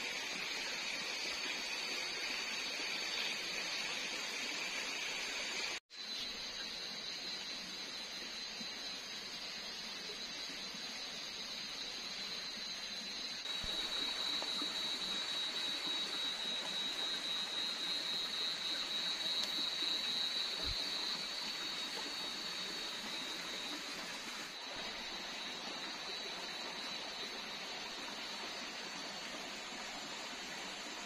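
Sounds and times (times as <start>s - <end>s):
high-pitched insect drone: 0.2s - 31.0s.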